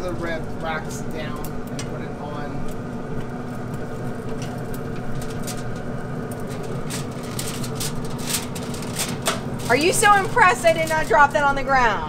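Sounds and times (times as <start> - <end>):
aluminum foil crinkling: 0.0 - 12.0
grill fan humming: 0.0 - 12.0.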